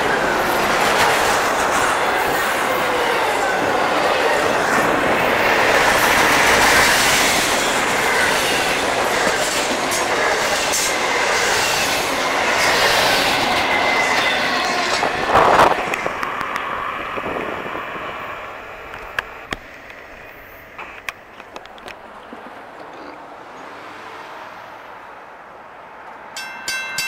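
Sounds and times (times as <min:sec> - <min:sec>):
freight train wheels rumbling: 0:00.0 - 0:23.7.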